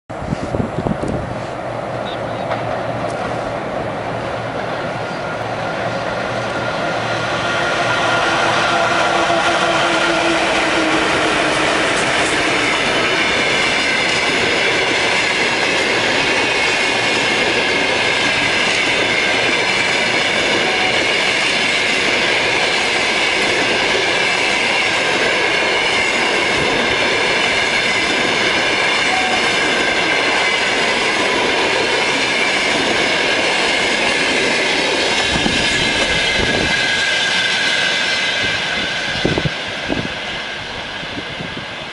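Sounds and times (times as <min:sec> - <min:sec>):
electric locomotive hum: 0:00.1 - 0:41.9
train wheels rumbling on rails: 0:00.1 - 0:41.9.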